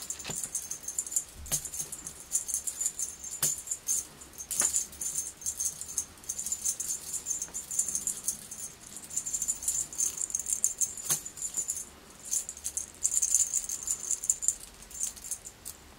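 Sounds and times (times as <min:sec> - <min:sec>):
toy jingling and rattling: 0:00.0 - 0:15.8.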